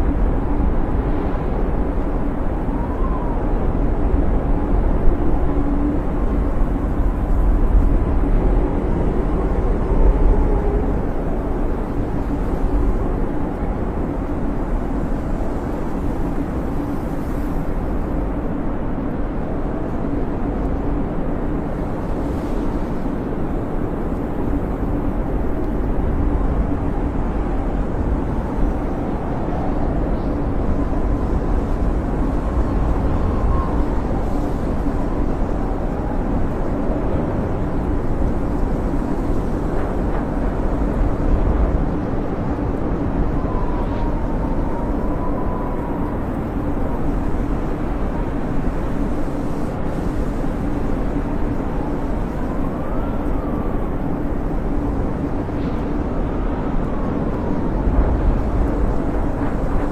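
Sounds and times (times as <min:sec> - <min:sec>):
blizzard wind rushing: 0:00.0 - 0:59.9.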